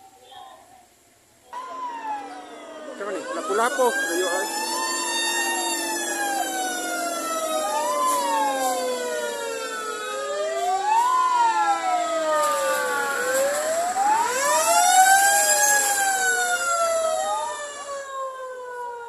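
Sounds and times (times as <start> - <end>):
fire truck sirens wailing: 1.6 - 19.0.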